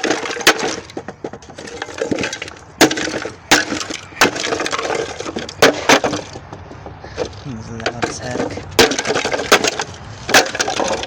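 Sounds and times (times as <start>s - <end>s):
wood cracking and splintering: 0.0s - 11.0s.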